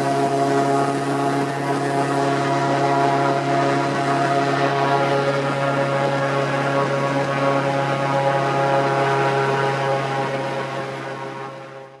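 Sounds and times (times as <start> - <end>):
airboat engine humming: 0.0 - 11.7.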